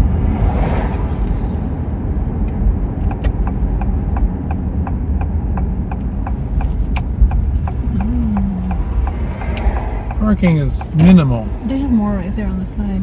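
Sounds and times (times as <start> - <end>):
car engine and road rumble: 0.0 - 13.0
turn signal ticking: 1.2 - 13.0.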